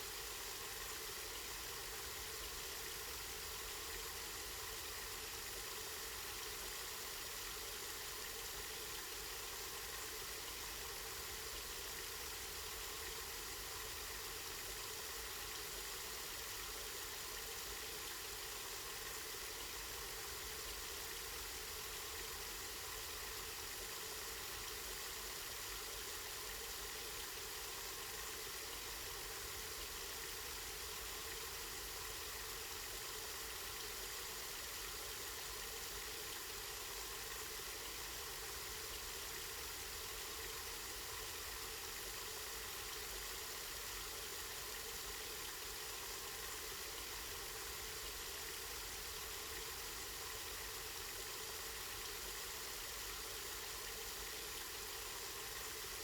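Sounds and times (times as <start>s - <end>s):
spring water flowing: 0.2s - 56.0s.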